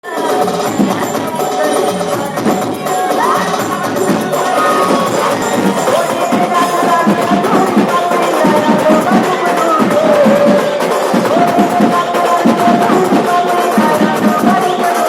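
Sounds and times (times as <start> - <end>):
fast percussion beat: 0.0 - 15.0
gliding melody line: 1.0 - 14.4.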